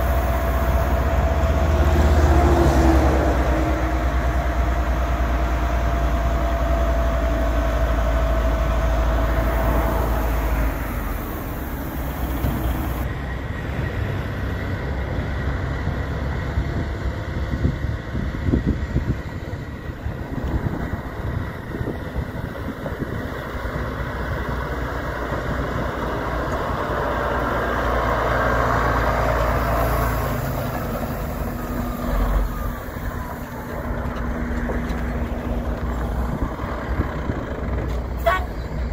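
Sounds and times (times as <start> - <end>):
diesel truck driving past: 0.0 - 38.9.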